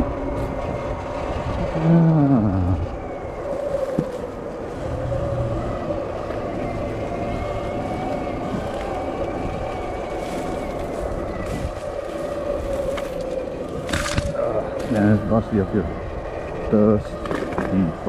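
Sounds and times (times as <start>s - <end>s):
electric motor whine: 0.0s - 18.0s
low riding rumble: 0.0s - 18.0s.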